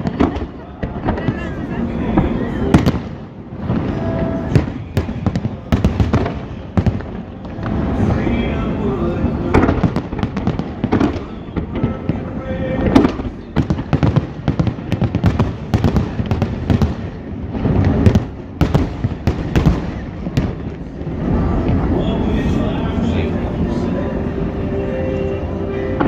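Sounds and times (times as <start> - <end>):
rumble after booms: 0.0 - 23.1
fireworks bangs and crackles: 0.0 - 26.0.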